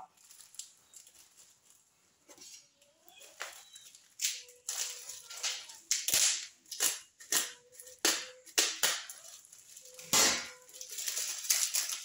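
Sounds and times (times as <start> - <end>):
packaging rustling and crinkling: 0.0 - 6.9, 9.0 - 12.0.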